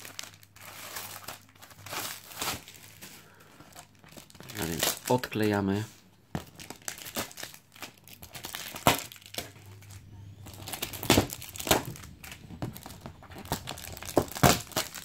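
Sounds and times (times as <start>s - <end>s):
plastic wrappers crinkling: 0.0s - 15.0s.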